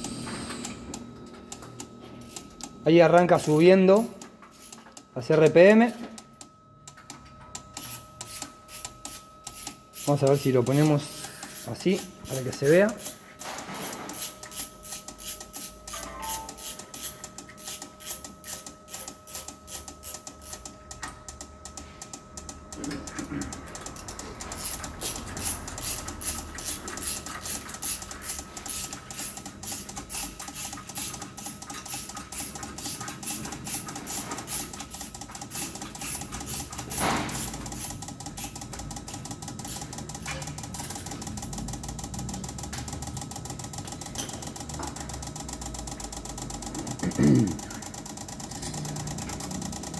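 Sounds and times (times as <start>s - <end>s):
fuel injectors clicking: 7.5s - 13.2s, 13.9s - 15.8s, 16.5s - 49.9s.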